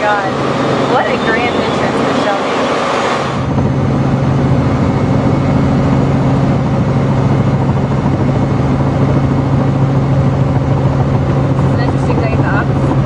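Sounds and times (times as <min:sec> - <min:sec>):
helicopter engine and rotors droning: 0:00.0 - 0:13.0.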